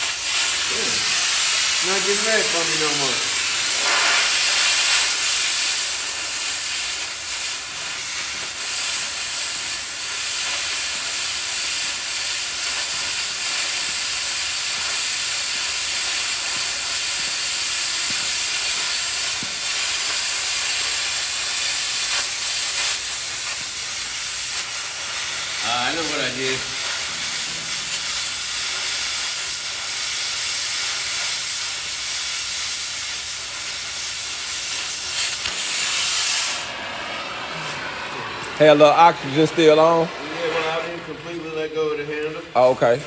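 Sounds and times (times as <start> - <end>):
cutting torch hissing: 0.0 - 43.0.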